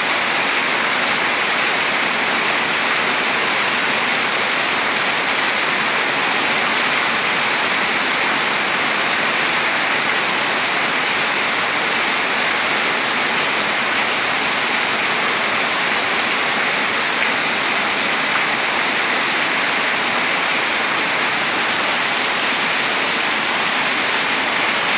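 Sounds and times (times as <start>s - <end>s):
heavy rain pouring: 0.0s - 24.9s
rain splashing on concrete: 0.1s - 24.9s.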